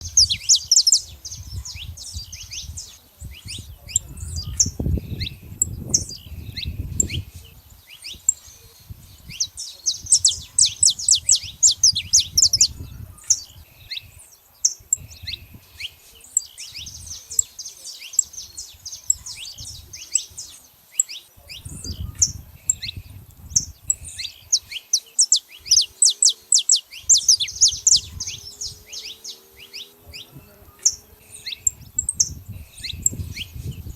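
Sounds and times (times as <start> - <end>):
finches chirping: 0.0 - 33.9.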